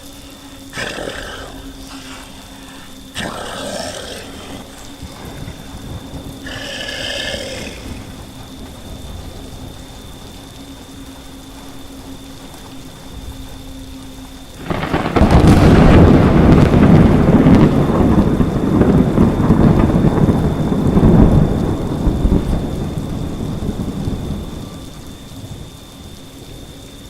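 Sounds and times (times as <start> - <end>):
steady rain: 0.0 - 27.0
thunder crack and rolling rumble: 0.0 - 27.0.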